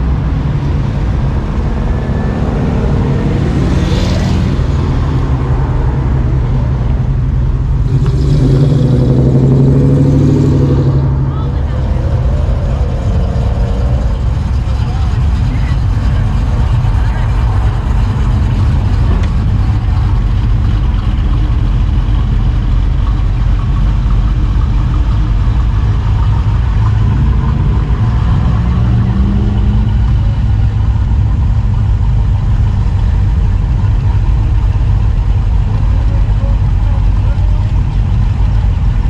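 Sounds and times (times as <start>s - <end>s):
car engine revving: 0.0s - 39.0s
car engines running slowly: 0.0s - 39.0s.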